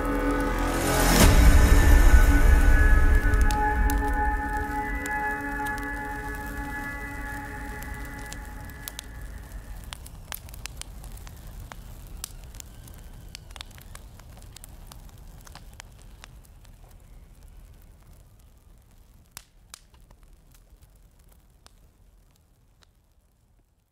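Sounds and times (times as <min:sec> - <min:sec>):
fire crackling and popping: 0:00.0 - 0:23.9
low rumble of fire: 0:00.0 - 0:23.9.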